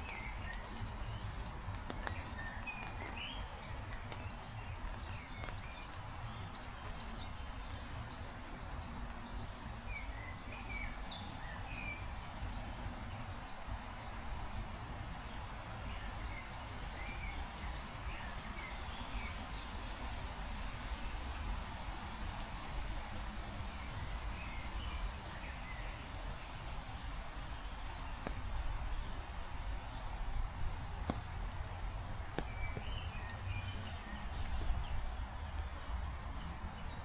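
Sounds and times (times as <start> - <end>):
birds chirping: 0.0 - 37.0
heavy rain: 0.0 - 37.0
low wind rumble: 0.0 - 37.0.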